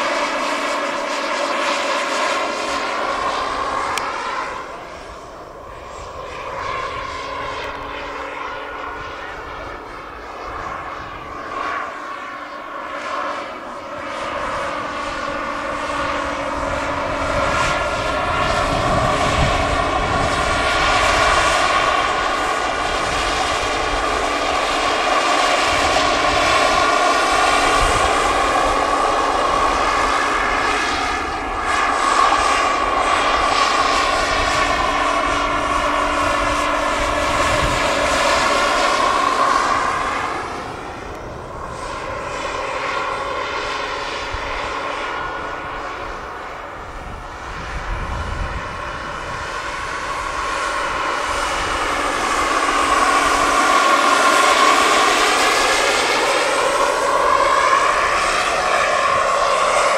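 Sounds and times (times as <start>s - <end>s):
model helicopter turbine whine: 0.0s - 59.9s.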